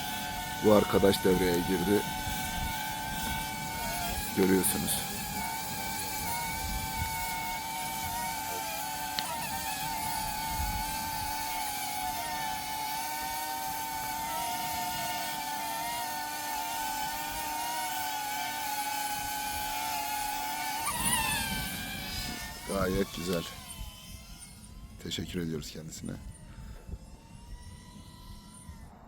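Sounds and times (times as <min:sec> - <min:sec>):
electric blower motor whine: 0:00.0 - 0:29.0.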